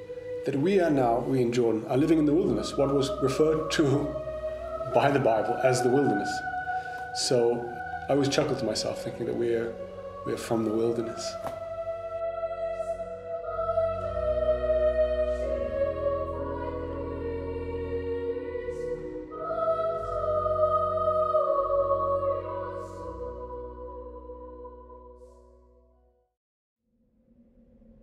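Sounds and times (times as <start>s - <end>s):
person singing long held notes: 0.0s - 25.3s
low sustained drone: 0.0s - 26.0s.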